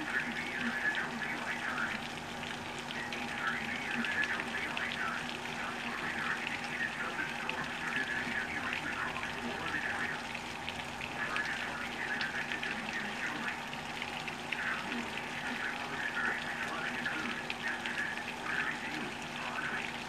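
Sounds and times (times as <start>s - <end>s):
drops splashing: 0.0s - 20.0s
heavy rain pouring: 0.0s - 20.0s.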